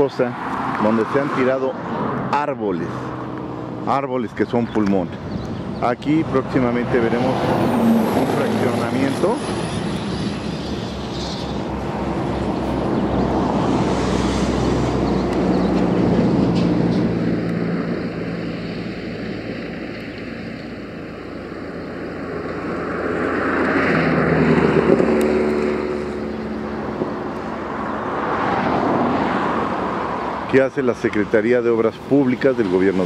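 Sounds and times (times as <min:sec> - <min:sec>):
vehicles passing: 0:00.0 - 0:33.0.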